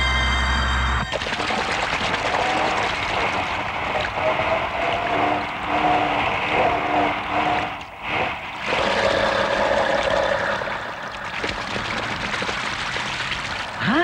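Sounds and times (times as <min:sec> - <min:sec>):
short pitched tones: 0:00.0 - 0:11.2
water splashing around wheels: 0:01.0 - 0:14.0.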